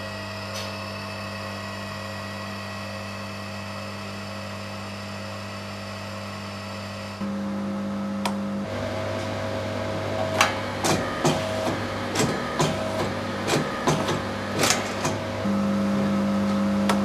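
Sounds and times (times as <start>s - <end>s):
steady electric hum: 0.0s - 17.0s.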